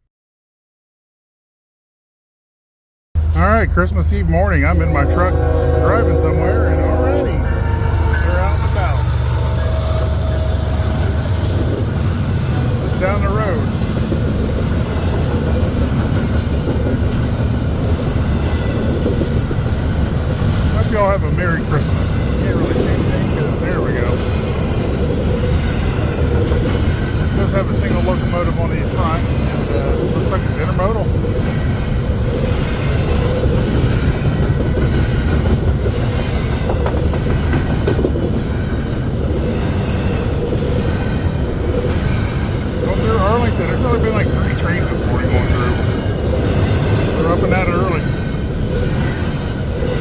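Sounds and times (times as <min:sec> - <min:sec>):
freight train rolling past: 0:03.2 - 0:50.0.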